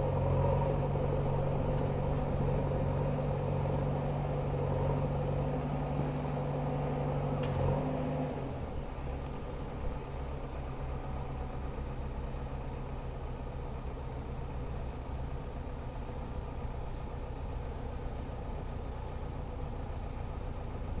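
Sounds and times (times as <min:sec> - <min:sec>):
diesel engine revving and idling: 0:00.0 - 0:21.0.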